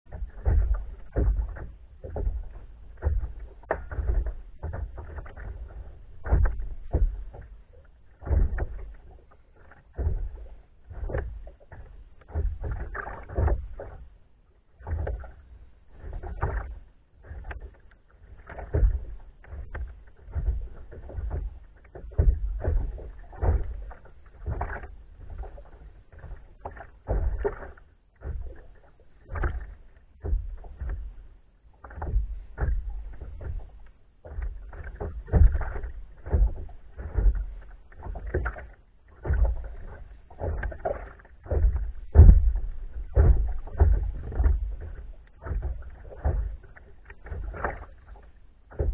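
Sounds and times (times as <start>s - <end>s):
water splashing around a boat: 0.0s - 48.9s.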